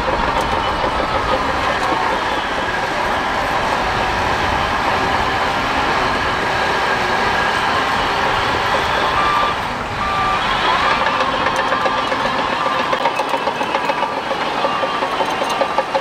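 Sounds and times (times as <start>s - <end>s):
bulldozer diesel engine running: 0.0s - 16.0s
reversing alarm beeping: 0.0s - 16.0s.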